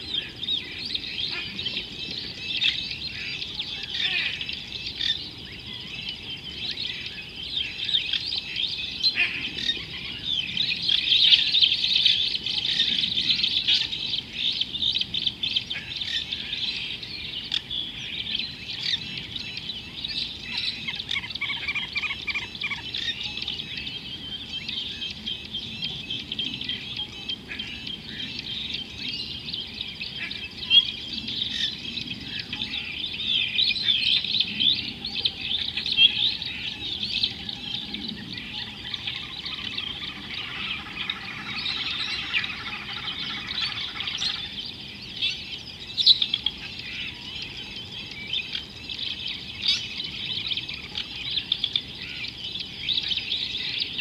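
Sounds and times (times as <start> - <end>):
bird trill: 0.0 - 54.0
chorus of birds chirping: 0.0 - 54.0.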